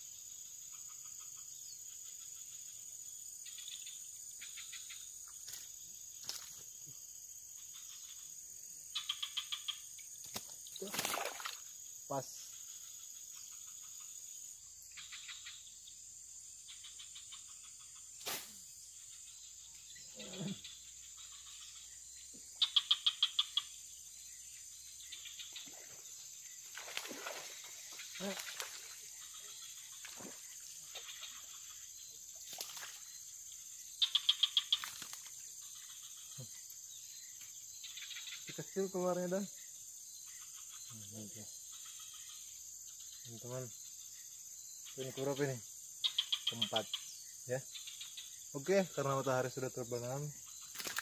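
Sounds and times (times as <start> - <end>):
high-pitched insect drone: 0.0 - 51.0
insects chirping in pulses: 0.0 - 51.0.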